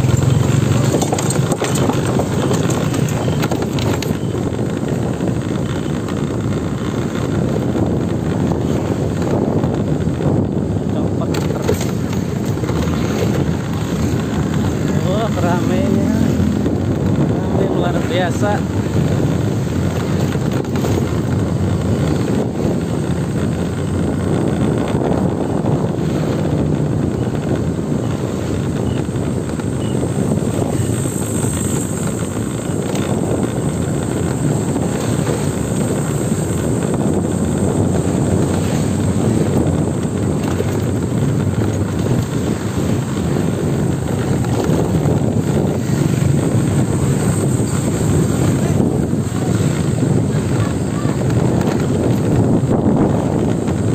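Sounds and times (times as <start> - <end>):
motorcycle engines rumbling: 0.0 - 53.9
wind noise on microphone: 0.0 - 53.9.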